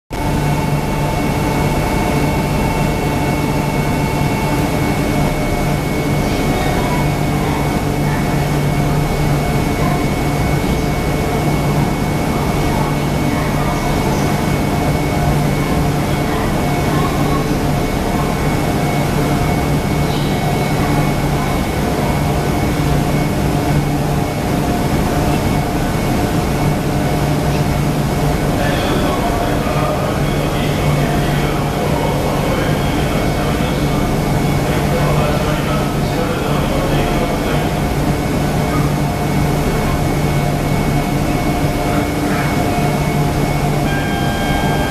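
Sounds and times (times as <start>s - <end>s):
train equipment mechanical drone: 0.2s - 44.9s.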